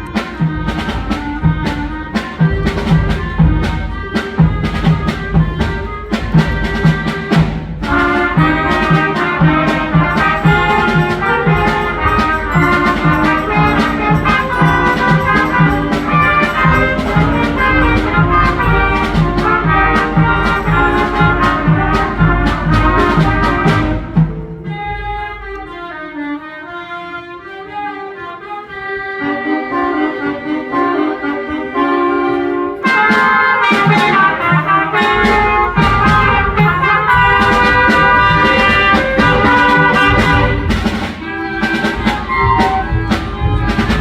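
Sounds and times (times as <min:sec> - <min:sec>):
steady drum beat: 0:00.0 - 0:26.1, 0:32.8 - 0:44.0
brass band music: 0:00.0 - 0:44.0.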